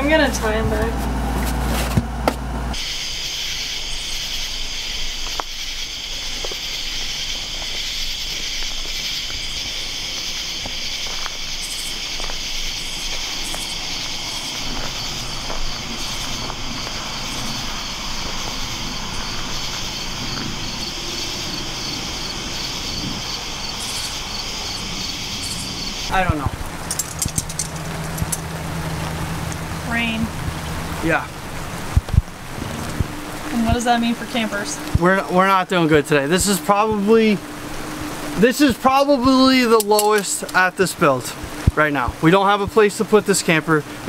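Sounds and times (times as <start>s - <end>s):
crickets chirping: 2.7s - 44.0s.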